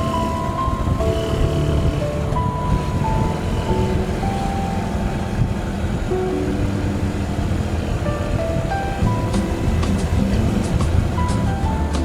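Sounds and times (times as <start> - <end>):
background music: 0.0 - 12.0
motorcycle engine rumble: 0.0 - 12.0
wind noise: 0.0 - 12.0.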